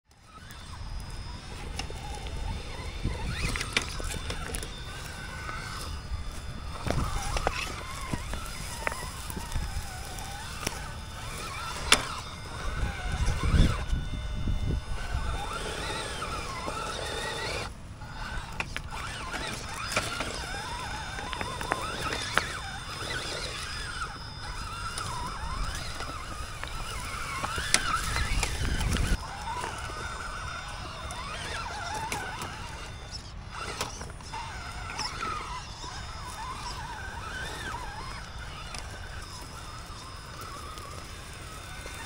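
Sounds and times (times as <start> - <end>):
electric motor and gearbox whining: 0.0 - 42.0.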